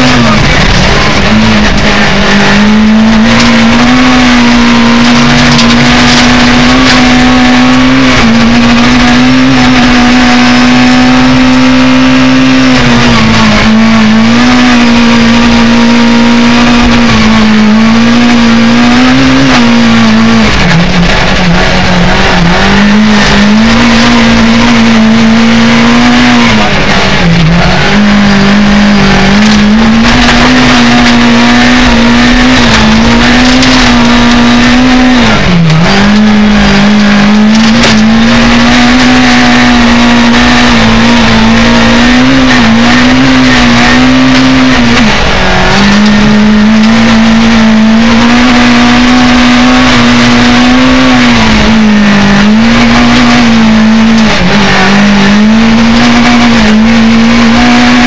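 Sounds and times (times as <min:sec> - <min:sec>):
car engine at high revs: 0:00.0 - 0:58.0
road noise: 0:00.0 - 0:58.0.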